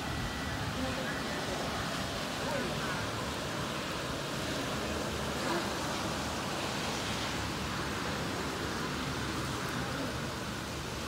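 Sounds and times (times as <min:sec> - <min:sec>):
torrential rain hissing: 0:00.0 - 0:11.0.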